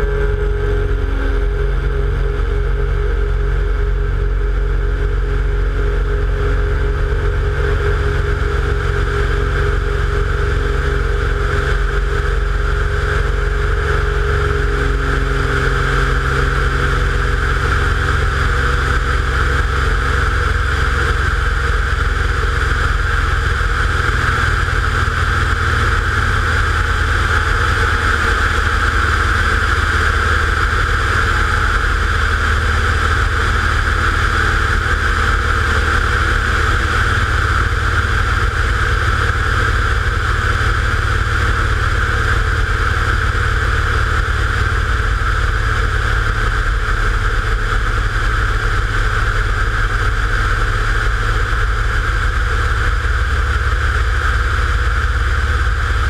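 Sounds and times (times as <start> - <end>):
propeller plane engine: 0.0 - 56.0.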